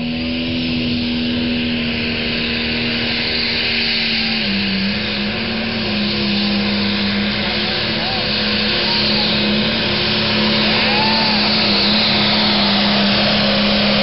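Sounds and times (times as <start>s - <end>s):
tractor engine at full throttle: 0.0s - 14.0s.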